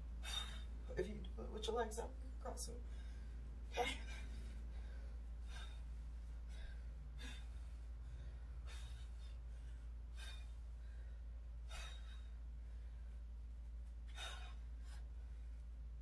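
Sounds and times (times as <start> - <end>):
woman breathing heavily: 0.0 - 0.9, 2.8 - 16.0
steady low hum: 0.0 - 16.0.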